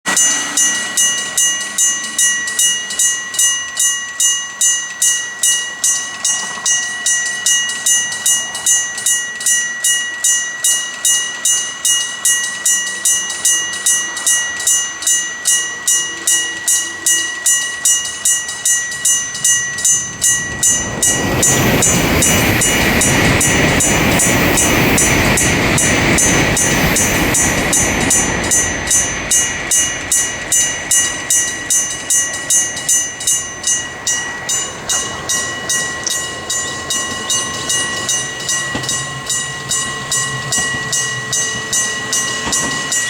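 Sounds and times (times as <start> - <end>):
level crossing bell ringing: 0.1 - 43.0.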